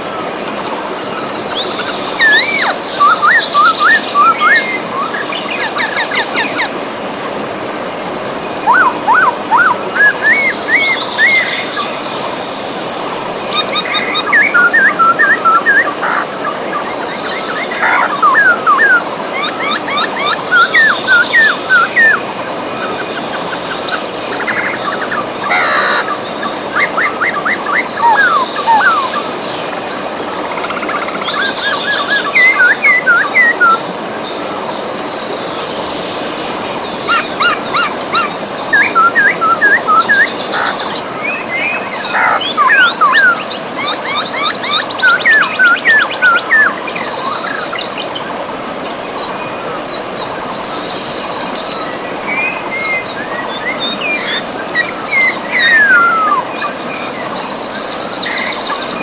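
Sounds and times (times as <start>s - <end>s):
river water running: 0.0s - 59.0s
songbirds singing: 0.0s - 59.0s.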